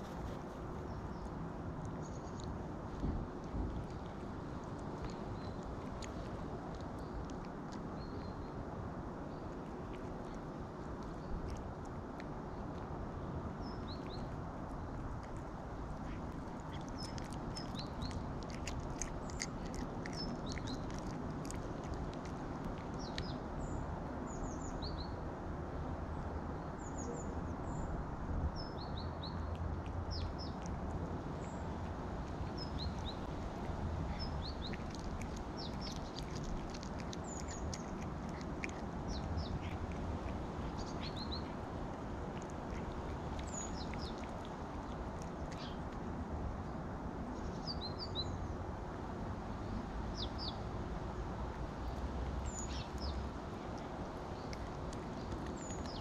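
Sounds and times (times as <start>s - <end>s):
cat chewing raw meat: 0.0s - 24.9s, 28.3s - 48.2s, 49.3s - 56.0s
small birds chirping: 0.0s - 25.3s, 26.5s - 48.7s, 49.6s - 56.0s
low background rumble: 0.0s - 56.0s.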